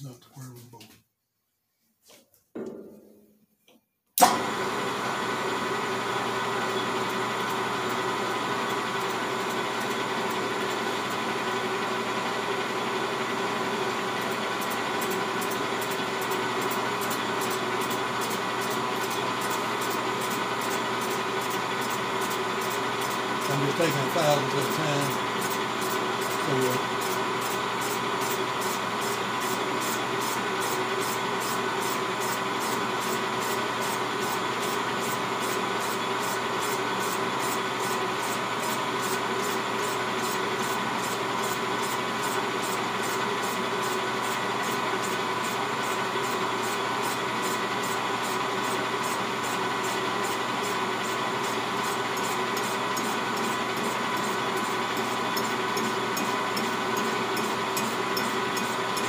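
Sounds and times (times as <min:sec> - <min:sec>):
metal lathe whining: 0:06.3 - 0:59.0.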